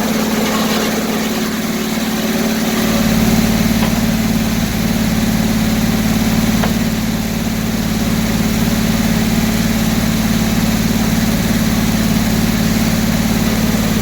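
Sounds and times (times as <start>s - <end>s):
sawmill gasoline engine running: 0.0s - 14.0s.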